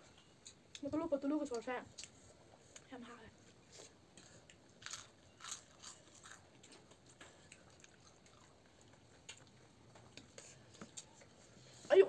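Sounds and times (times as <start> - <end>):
people chewing: 0.0 - 11.9.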